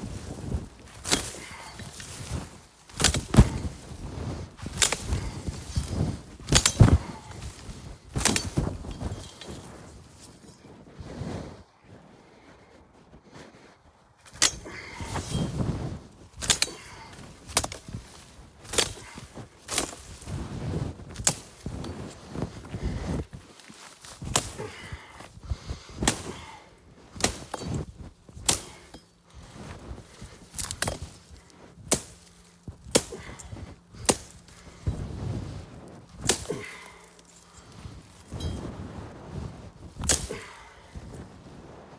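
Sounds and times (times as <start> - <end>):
hand tool chopping weed stalks: 0.0 - 10.4, 14.2 - 41.2
rustling and handling noise: 0.0 - 41.9.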